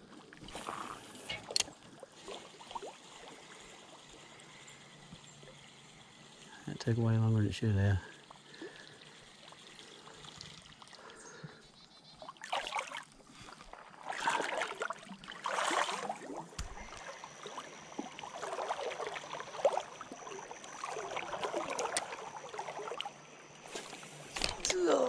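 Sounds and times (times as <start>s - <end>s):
river water sloshing around legs: 0.0s - 4.7s, 8.2s - 25.0s.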